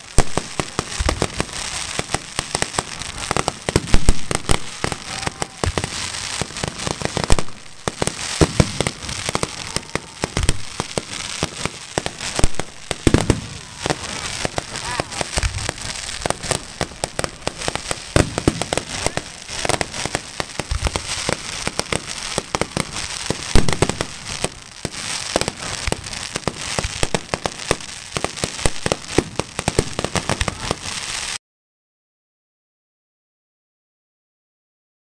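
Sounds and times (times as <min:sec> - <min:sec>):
fireworks bangs and crackling: 0:00.0 - 0:31.4.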